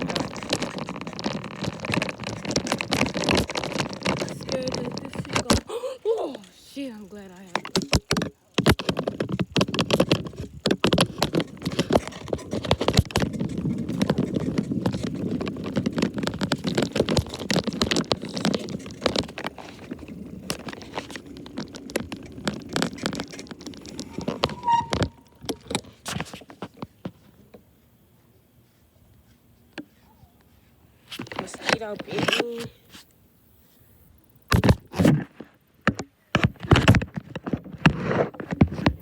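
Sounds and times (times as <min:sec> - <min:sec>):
camera rattling on a bicycle: 0:00.0 - 0:33.0, 0:34.2 - 0:39.0.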